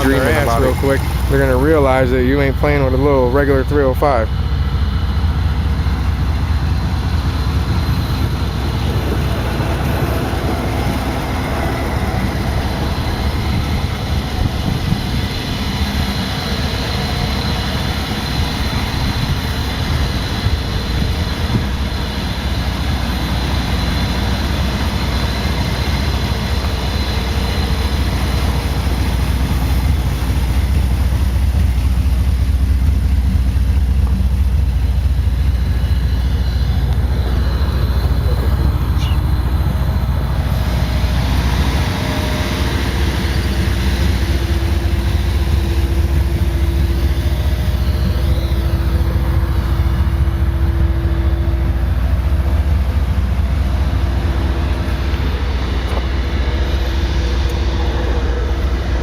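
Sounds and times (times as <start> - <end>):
engine running with low hum: 0.0 - 59.0.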